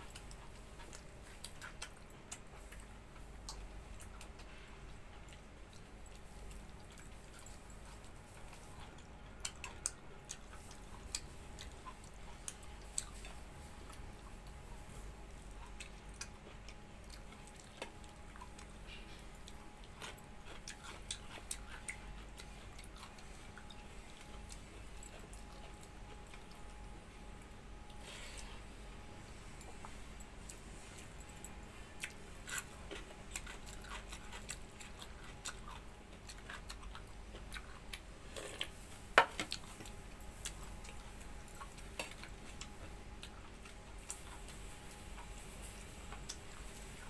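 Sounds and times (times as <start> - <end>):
faint steady hum: 0.0 - 47.0
person chewing food: 0.0 - 47.0.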